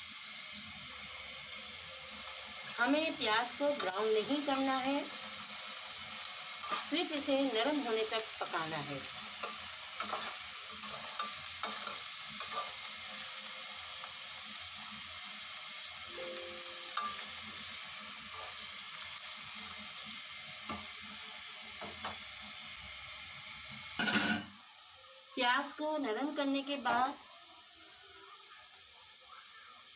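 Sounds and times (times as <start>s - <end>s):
onions sizzling in a pot: 0.0s - 29.9s.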